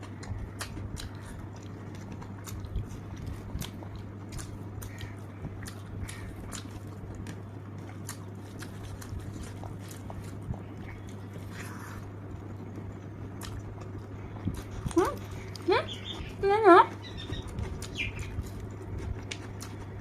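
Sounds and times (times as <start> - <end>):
low hum: 0.0 - 20.0
person chewing food: 0.0 - 20.0.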